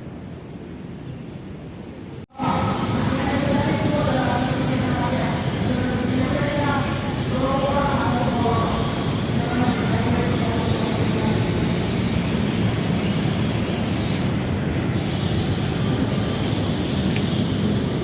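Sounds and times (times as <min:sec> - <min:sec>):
train rolling rumble: 0:01.8 - 0:18.0
wheels squealing on rails: 0:02.5 - 0:18.0.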